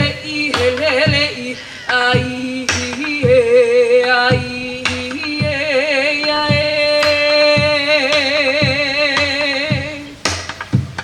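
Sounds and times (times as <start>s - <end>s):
voices singing long wavering notes: 0.0s - 10.4s
steady drum beat: 0.0s - 11.0s.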